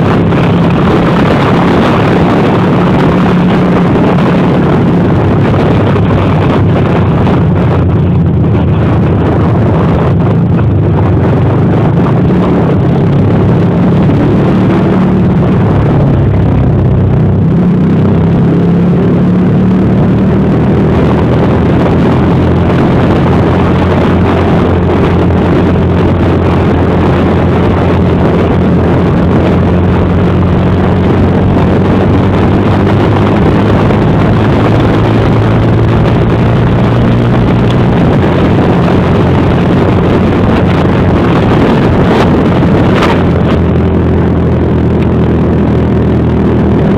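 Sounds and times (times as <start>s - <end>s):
motorcycle engine cruising: 0.0s - 46.9s
wind buffeting microphone: 0.0s - 46.9s.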